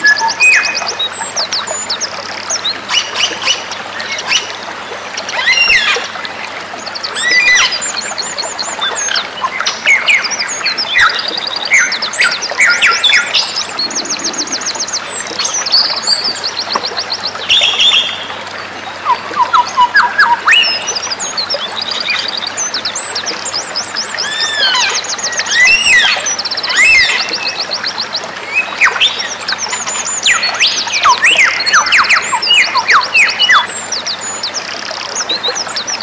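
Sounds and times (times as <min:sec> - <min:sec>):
songbirds calling and singing: 0:00.0 - 0:36.0.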